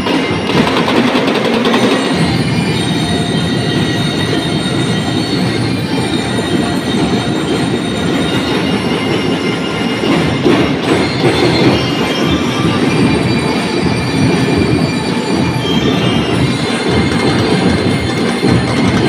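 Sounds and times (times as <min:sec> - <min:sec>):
bell lyres ringing: 0:00.0 - 0:19.0.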